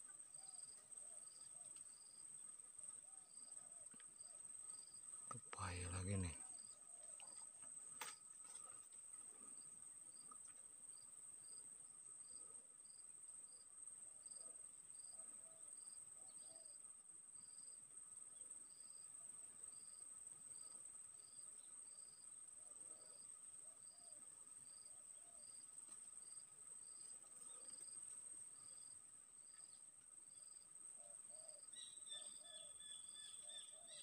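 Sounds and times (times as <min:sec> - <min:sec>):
insect drone: 0:00.0 - 0:34.0.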